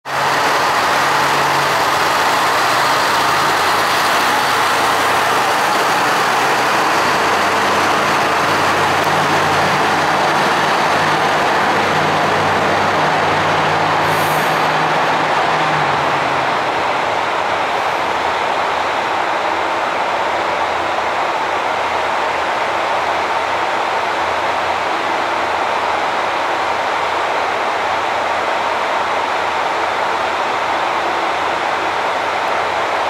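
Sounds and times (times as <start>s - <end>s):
diesel railcar engine rumbling: 0.0s - 33.0s.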